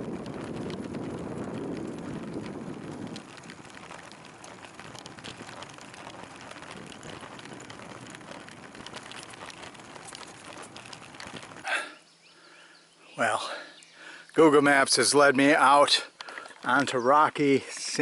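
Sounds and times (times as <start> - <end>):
bicycle tyres on dirt road: 0.0 - 18.0.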